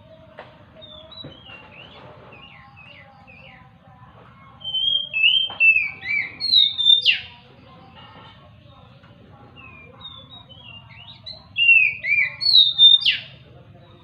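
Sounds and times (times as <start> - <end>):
magpie-robin singing: 0.7 - 14.0.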